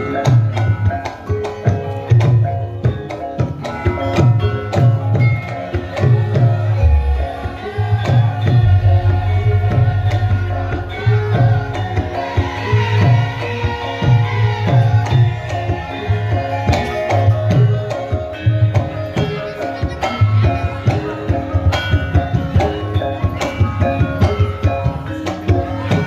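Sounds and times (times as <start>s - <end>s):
hand drums: 0.0s - 26.0s
ringing metallophone tones: 0.0s - 26.0s.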